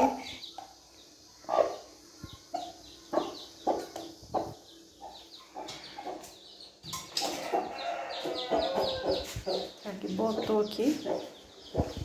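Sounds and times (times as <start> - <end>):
hen clucking: 1.4 - 12.0.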